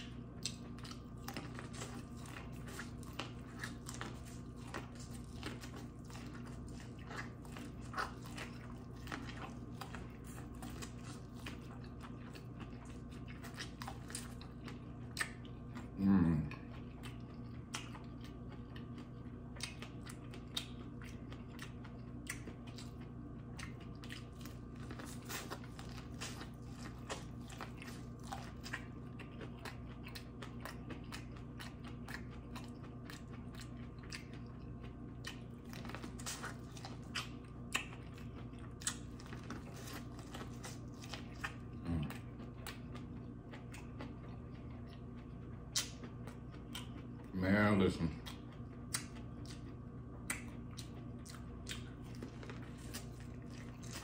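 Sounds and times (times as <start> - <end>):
person chewing crunchy food: 0.0 - 54.0
steady low hum: 0.0 - 54.0.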